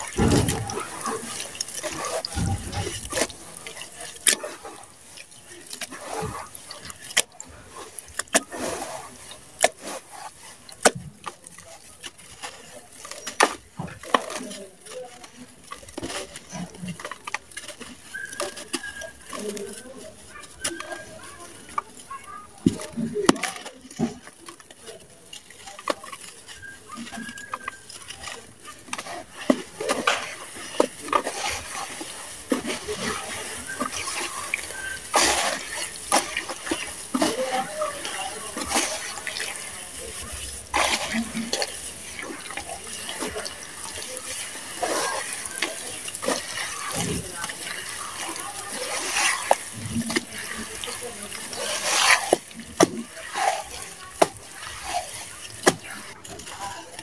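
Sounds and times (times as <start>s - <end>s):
wet sand sloshing and squelching: 0.0s - 57.0s.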